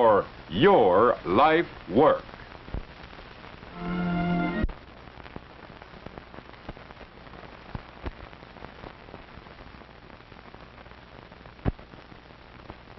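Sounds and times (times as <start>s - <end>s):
film soundtrack hiss: 0.0s - 12.9s.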